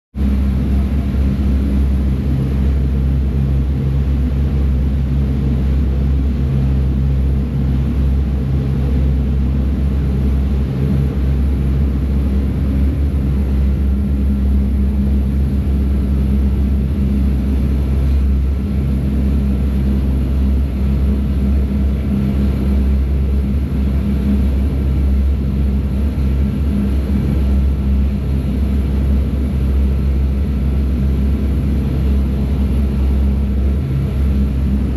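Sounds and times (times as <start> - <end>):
ferry engine droning: 0.2 - 34.9
water churning past hull: 0.2 - 34.9.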